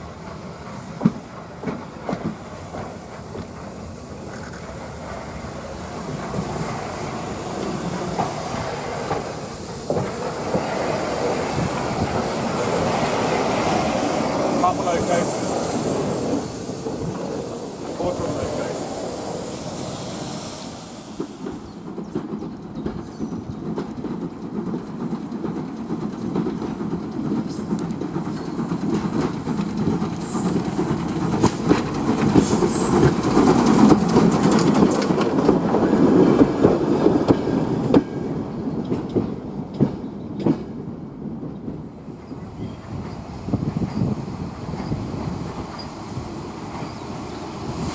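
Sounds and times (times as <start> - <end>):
train wheels clicking on rails: 0.0 - 47.9.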